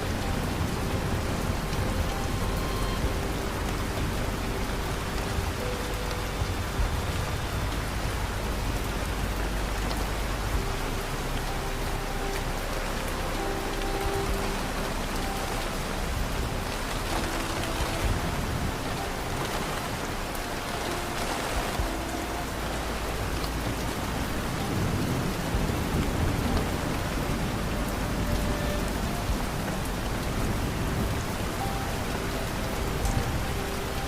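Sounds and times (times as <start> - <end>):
low rumble: 0.0 - 34.0
steady rain: 0.0 - 34.0.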